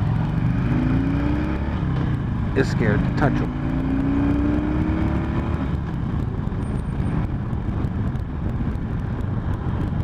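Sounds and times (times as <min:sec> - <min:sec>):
vehicle low rumble: 0:00.0 - 0:10.0.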